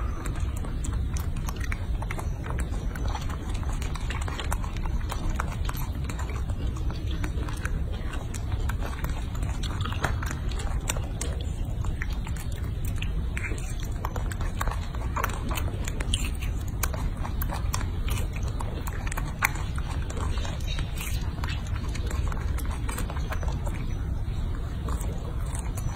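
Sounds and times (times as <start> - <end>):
monkey chewing clicks and smacks: 0.0 - 25.9
steady low hum: 0.0 - 25.9.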